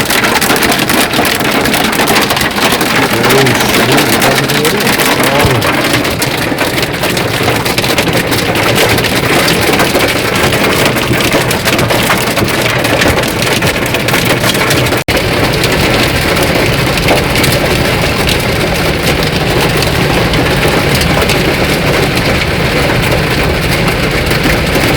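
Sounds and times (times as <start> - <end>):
heavy rain pattering: 0.0 - 24.9.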